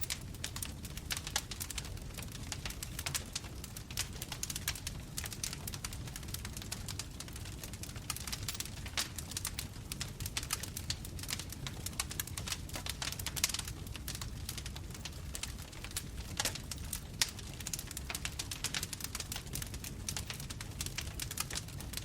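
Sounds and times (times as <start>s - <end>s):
bonfire crackling and popping: 0.0s - 22.0s
low rumble of flames: 0.0s - 22.0s.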